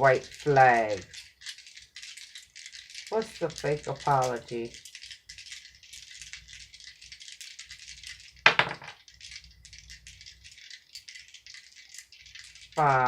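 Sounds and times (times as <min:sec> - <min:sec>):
dice rattling: 0:00.0 - 0:13.0.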